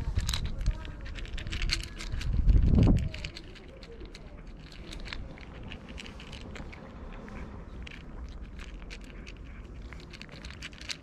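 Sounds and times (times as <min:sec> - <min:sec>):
cat crunching dry kibble: 0:00.0 - 0:11.0.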